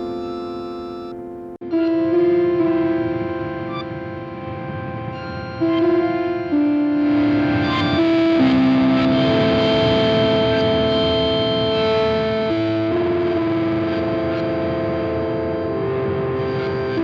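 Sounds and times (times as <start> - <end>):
distorted synthesizer notes: 0.0 - 17.0.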